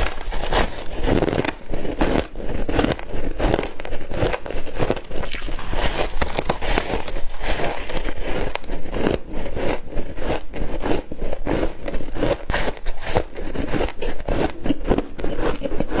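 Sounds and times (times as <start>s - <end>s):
chewing frost crunching: 0.0s - 16.0s.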